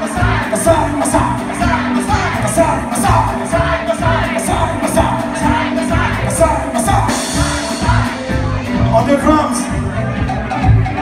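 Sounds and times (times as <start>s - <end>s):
bass guitar: 0.0s - 11.0s
drum kit: 0.0s - 11.0s.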